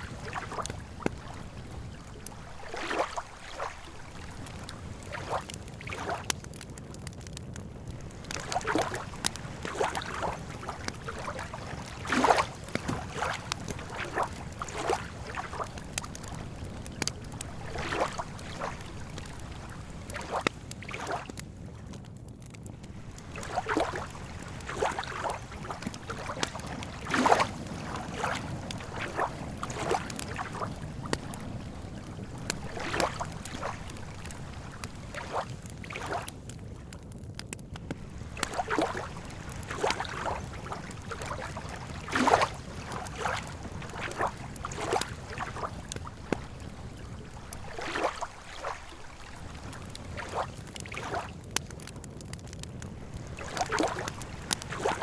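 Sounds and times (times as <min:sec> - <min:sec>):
lake water lapping: 0:00.0 - 0:06.7, 0:07.8 - 0:21.4, 0:22.7 - 0:36.8, 0:37.8 - 0:51.9, 0:52.5 - 0:55.0
campfire crackling and popping: 0:00.0 - 0:55.0.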